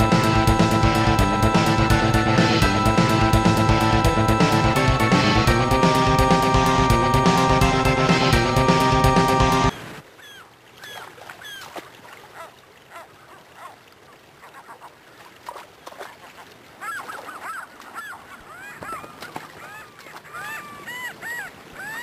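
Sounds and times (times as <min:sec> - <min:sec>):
gulls calling: 0:00.0 - 0:13.8, 0:16.7 - 0:22.0.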